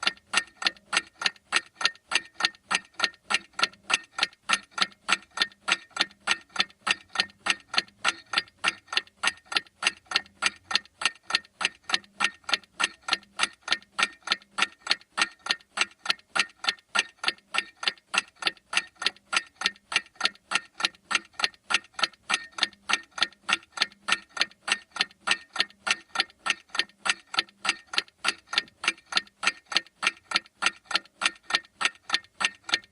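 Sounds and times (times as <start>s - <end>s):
clock ticking: 0.0s - 32.9s.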